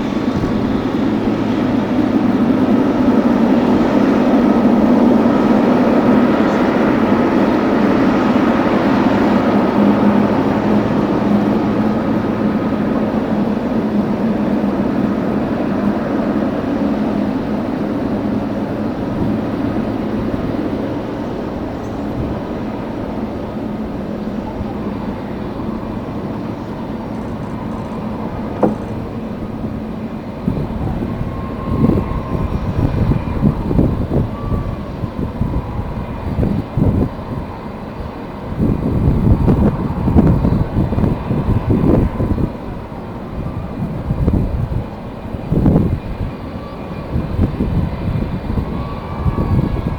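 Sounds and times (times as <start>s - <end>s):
jet engines rumbling: 0.0s - 49.9s
wind buffeting microphone: 0.0s - 49.9s.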